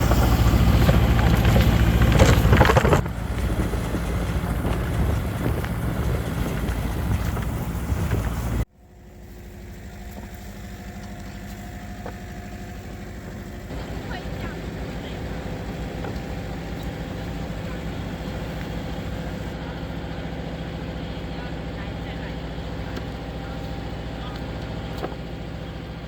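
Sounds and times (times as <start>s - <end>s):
farm machinery engine rumbling: 0.0s - 26.0s
quiet engine hum: 0.0s - 26.0s.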